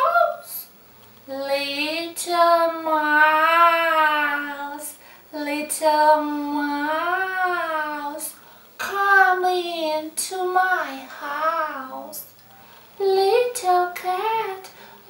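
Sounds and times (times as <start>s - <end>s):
woman singing unaccompanied: 0.0s - 12.4s, 13.0s - 15.0s.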